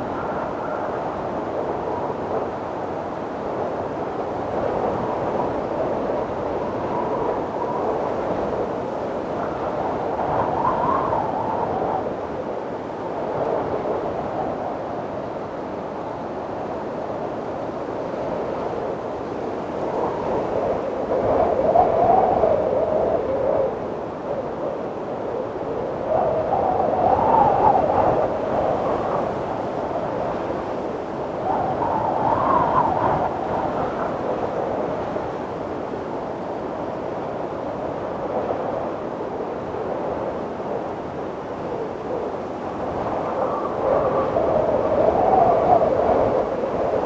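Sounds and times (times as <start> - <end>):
wind gusting with whistling: 0.0 - 47.0.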